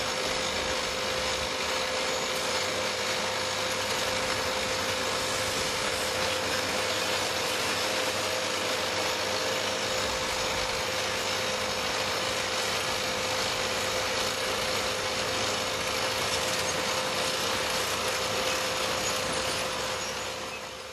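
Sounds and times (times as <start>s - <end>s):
drill rig running: 0.0s - 20.9s.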